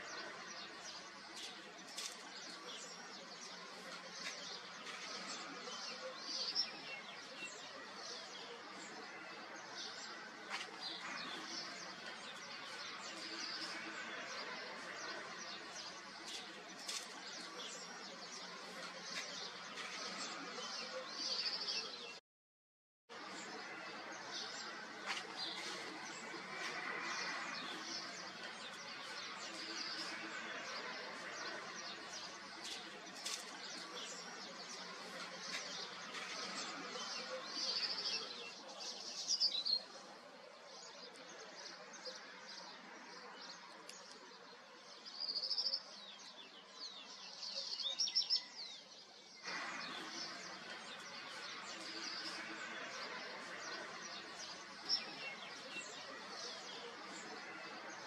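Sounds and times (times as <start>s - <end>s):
small birds chirping: 0.0s - 22.2s, 23.1s - 58.0s
steady background noise: 0.0s - 22.2s, 23.1s - 58.0s.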